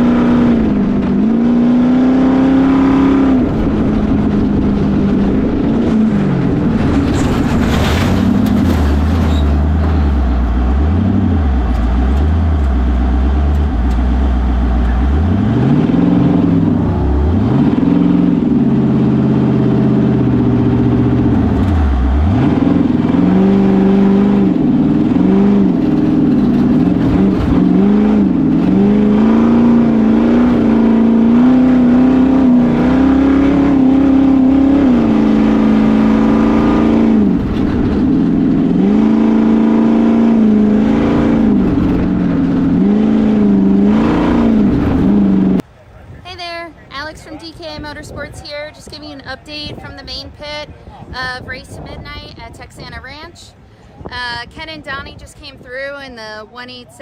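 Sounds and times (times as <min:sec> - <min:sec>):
race car engine revving: 0:00.0 - 0:45.6.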